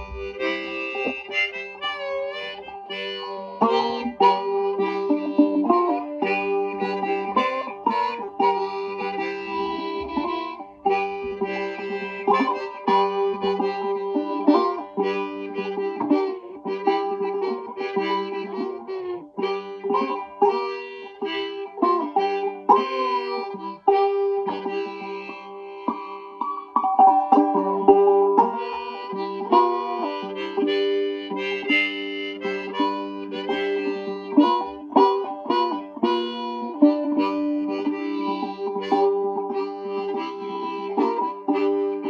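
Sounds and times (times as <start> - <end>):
harmonica bent notes: 0.0 - 42.0
mandolin picking: 0.0 - 42.0.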